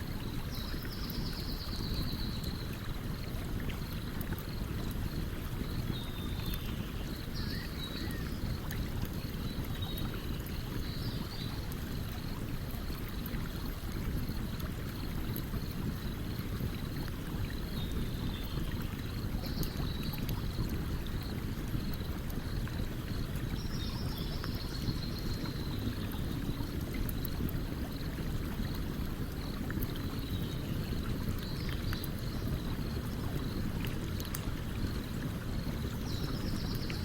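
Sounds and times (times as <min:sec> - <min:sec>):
faint campfire crackle: 0:00.0 - 0:37.0.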